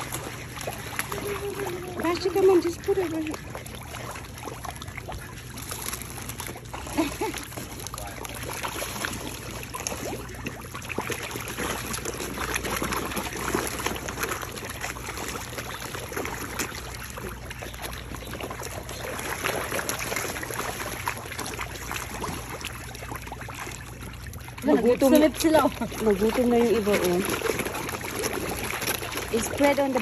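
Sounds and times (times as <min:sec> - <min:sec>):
fish splashing and gulping: 0:00.0 - 0:30.0.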